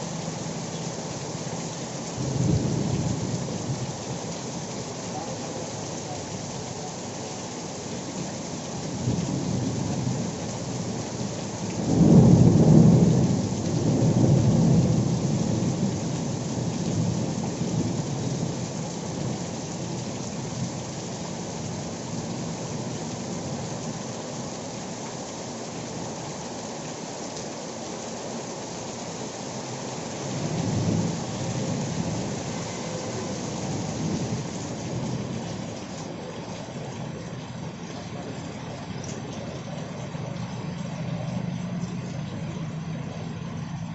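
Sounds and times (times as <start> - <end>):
heavy rain pouring on road: 0.0 - 43.9.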